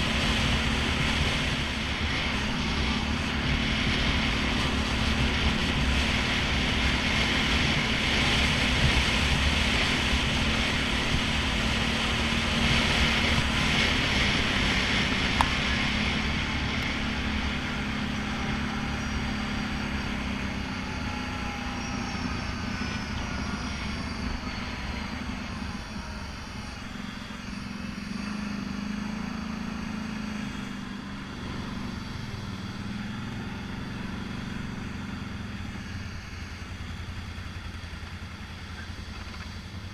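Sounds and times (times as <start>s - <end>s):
quad bike engine running: 0.0s - 39.9s
wind: 0.0s - 39.9s.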